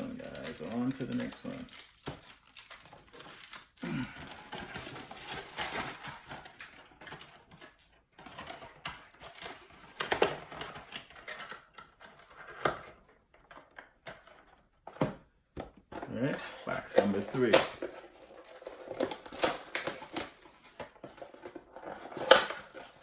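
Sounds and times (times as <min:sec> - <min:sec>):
cardboard and plastic rustling: 0:00.0 - 0:23.0.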